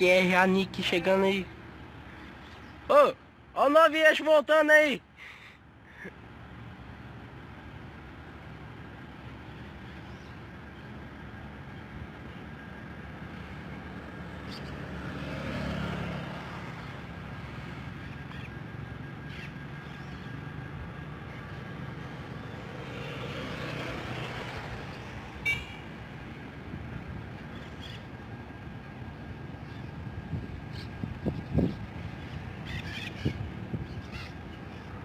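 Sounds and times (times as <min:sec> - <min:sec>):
heavy trucks passing: 0:00.0 - 0:35.0.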